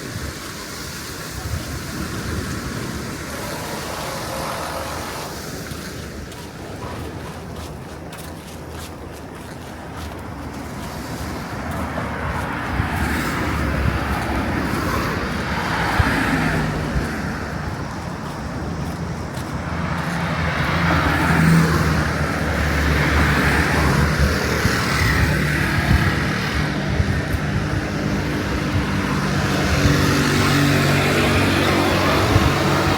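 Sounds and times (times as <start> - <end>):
vehicles passing close by: 0.0 - 32.9.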